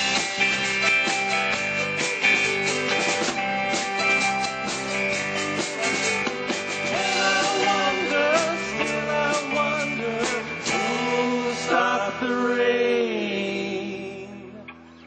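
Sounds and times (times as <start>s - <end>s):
steady drum beat: 0.0s - 12.2s
electric guitar playing: 0.0s - 15.0s.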